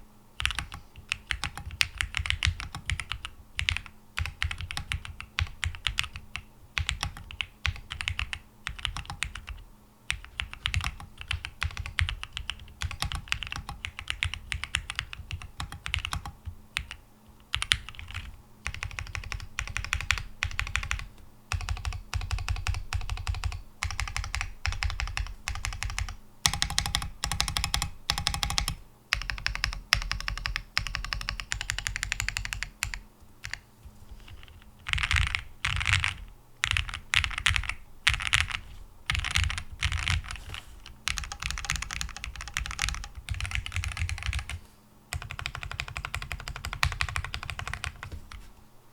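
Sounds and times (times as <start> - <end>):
fast mechanical keyboard typing: 0.4 - 33.6, 34.2 - 48.2.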